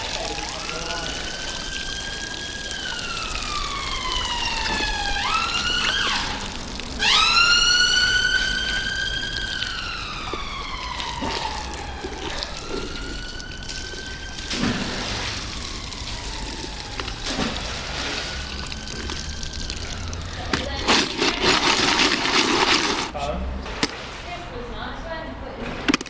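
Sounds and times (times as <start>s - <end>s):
emergency vehicle siren wailing: 0.0s - 23.1s.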